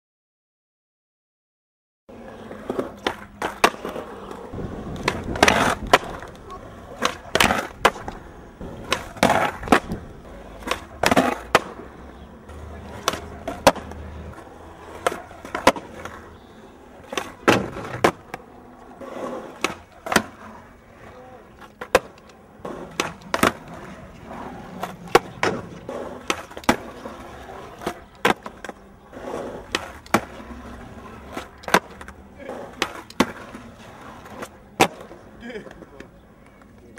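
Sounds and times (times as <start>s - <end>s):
skateboard clacking on ground: 2.1s - 36.9s
skateboard wheels rolling on concrete: 2.1s - 36.9s.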